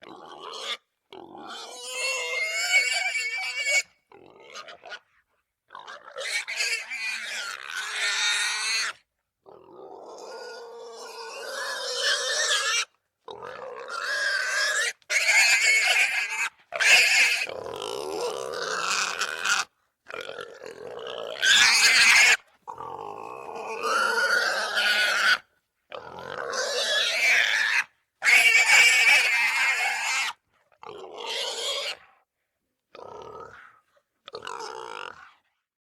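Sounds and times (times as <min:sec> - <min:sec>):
wild boar squealing: 0:00.0 - 0:32.2.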